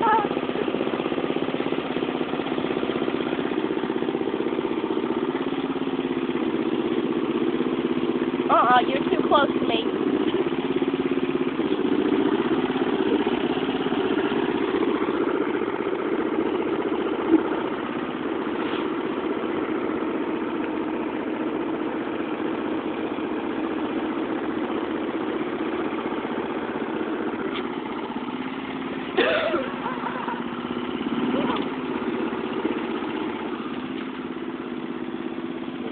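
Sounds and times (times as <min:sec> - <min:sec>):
lawn mower engine running: 0:00.0 - 0:35.9.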